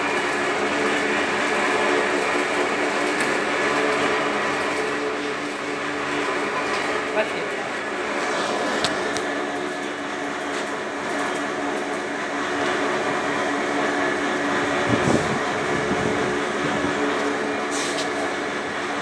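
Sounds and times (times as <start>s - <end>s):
mixer machine humming: 0.0s - 19.0s.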